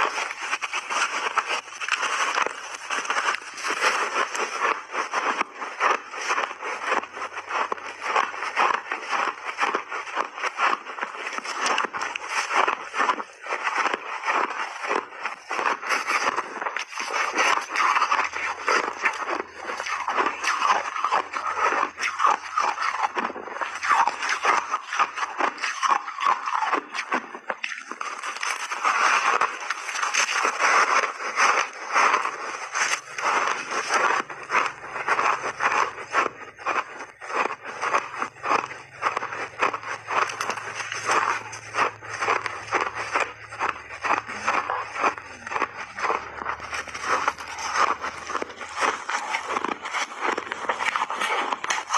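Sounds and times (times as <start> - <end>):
ice being chewed crunching: 0.0 - 51.9.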